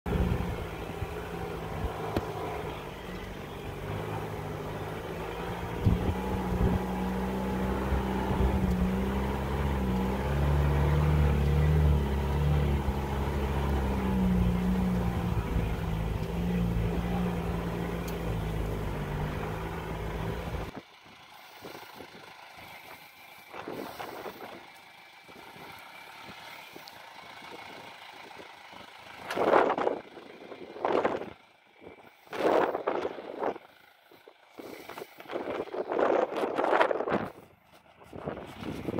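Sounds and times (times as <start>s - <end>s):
diesel engine driving: 0.0s - 38.9s
faint engine noise outdoors: 0.0s - 38.9s.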